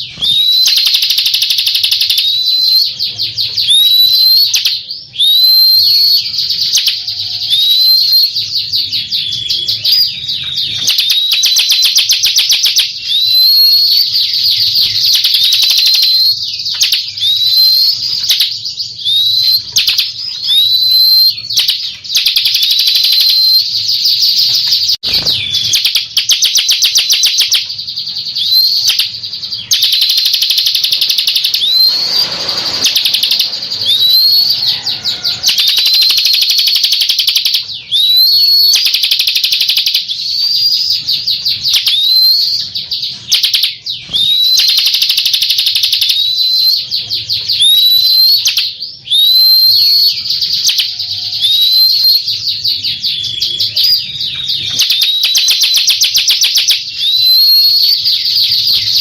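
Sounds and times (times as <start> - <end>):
bird singing buzzy trills: 0.0 - 59.0
upswept whistled bird notes: 0.0 - 59.0.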